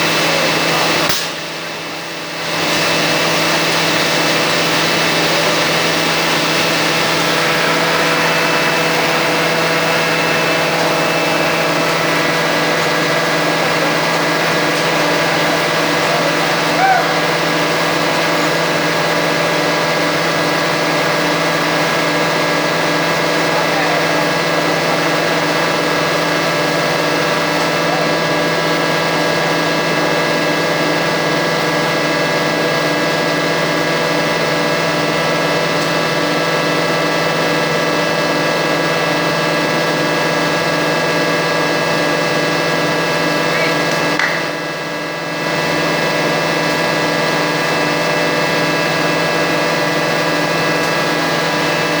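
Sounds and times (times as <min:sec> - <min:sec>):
mill machinery humming: 0:00.0 - 0:52.0.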